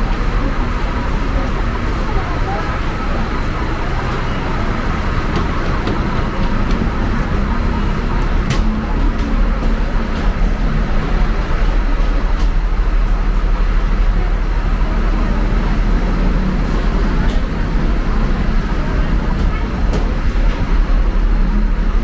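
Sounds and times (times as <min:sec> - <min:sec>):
low rumble of road traffic: 0:00.0 - 0:22.0.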